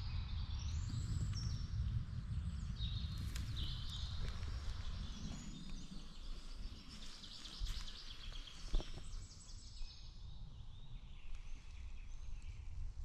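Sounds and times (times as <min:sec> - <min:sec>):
low microphone rumble: 0:00.0 - 0:13.0
small songbirds singing: 0:00.0 - 0:13.0.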